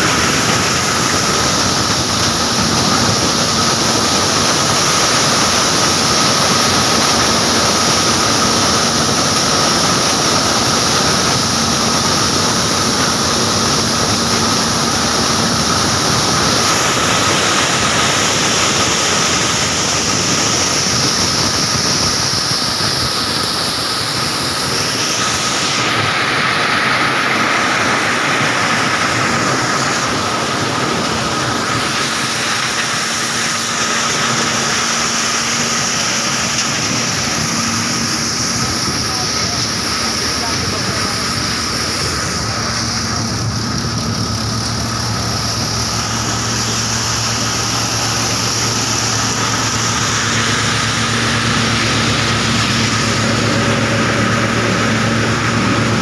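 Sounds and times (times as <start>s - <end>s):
thresher clattering and whining: 0.0s - 56.0s.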